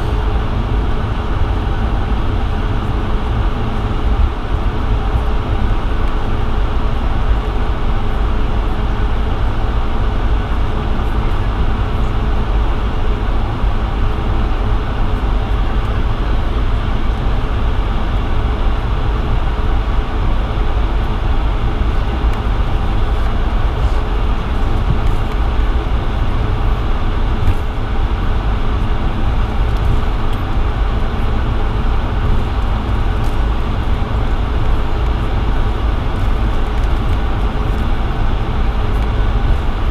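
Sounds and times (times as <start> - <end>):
jet cabin low rumble: 0.0 - 39.9.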